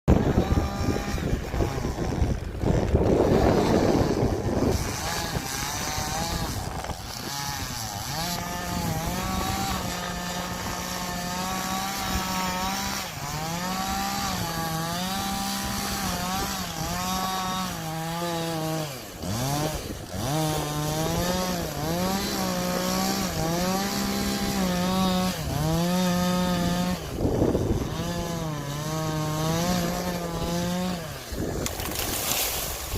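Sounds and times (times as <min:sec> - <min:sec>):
chainsaw cutting wood: 0:00.1 - 0:32.9.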